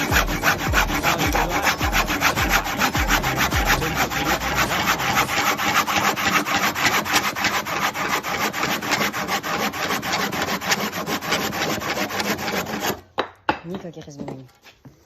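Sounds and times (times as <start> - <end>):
hand saw cutting wood: 0.0 - 13.1.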